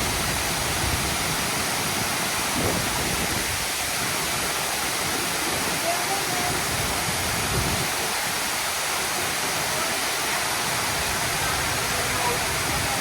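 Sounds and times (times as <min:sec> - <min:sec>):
water cascading into pool: 0:00.0 - 0:13.0.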